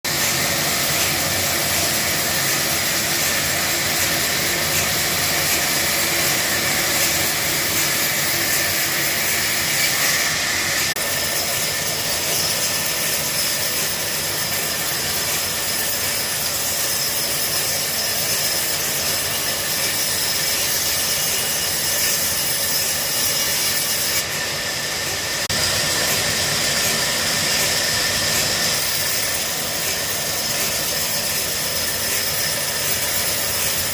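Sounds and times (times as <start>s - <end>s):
woodworking machine whirring: 0.1s - 33.9s.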